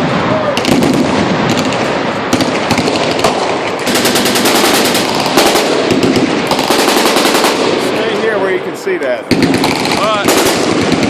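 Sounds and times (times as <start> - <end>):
machine guns firing full-auto: 0.0 - 8.6, 9.3 - 11.0.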